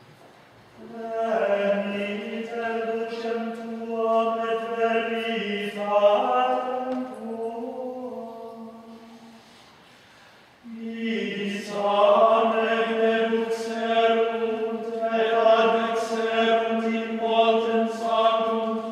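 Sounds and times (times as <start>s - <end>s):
gregorian chant: 0.8s - 9.6s, 10.6s - 18.9s.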